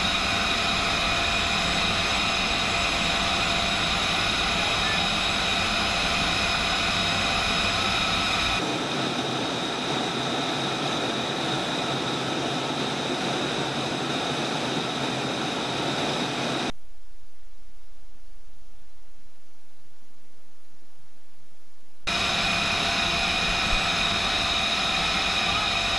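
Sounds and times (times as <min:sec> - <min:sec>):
jet engine idling: 0:00.0 - 0:25.9.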